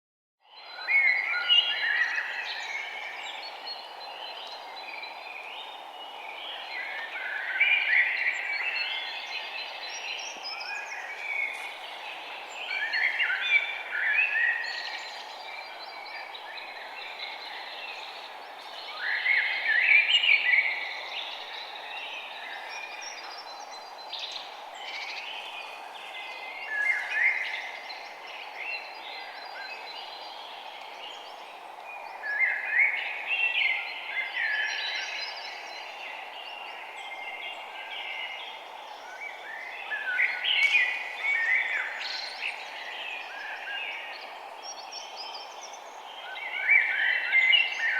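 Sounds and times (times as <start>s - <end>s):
birds chirping: 0.6s - 47.9s
steady background hiss: 0.9s - 47.9s.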